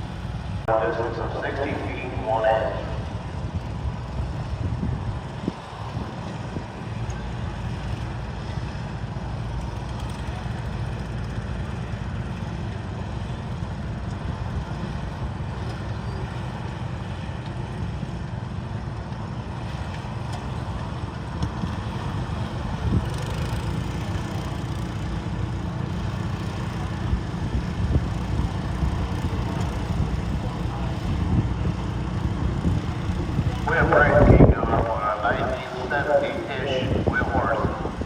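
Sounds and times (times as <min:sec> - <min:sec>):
garden tractor engine rumbling: 0:00.0 - 0:38.0.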